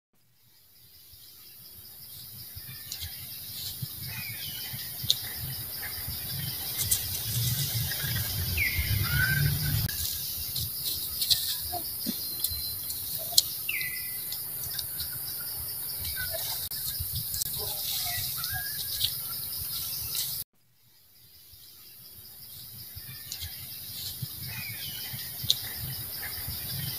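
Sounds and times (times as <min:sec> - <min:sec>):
insects droning: 0:00.2 - 0:26.9
birds chirping: 0:00.9 - 0:20.4, 0:21.7 - 0:26.9.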